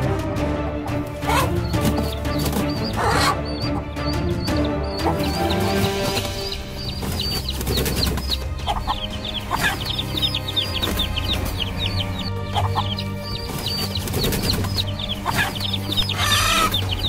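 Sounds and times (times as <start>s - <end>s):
background music: 0.0s - 17.0s
chicken squawking: 0.8s - 17.0s
chicks peeping: 0.8s - 17.0s.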